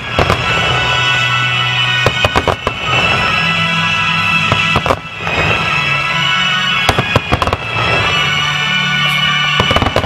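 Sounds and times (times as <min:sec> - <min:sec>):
fireworks bangs: 0:00.0 - 0:10.0
music with sustained tones: 0:00.0 - 0:10.0.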